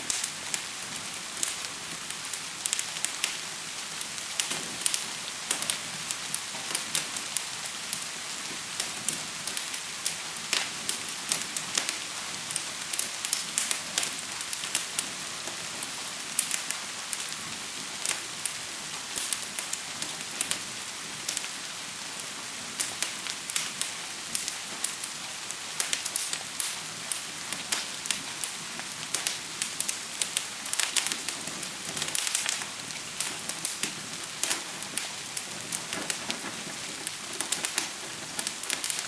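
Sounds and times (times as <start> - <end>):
gentle rain hiss: 0.0 - 39.0
wood fire crackling and popping: 0.0 - 39.0.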